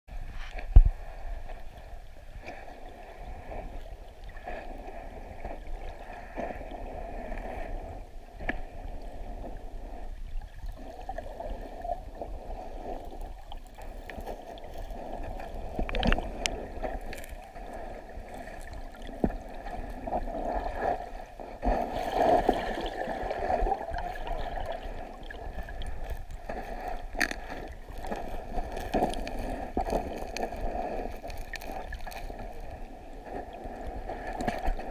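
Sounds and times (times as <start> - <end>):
muffled underwater water flow: 0.1 - 34.9.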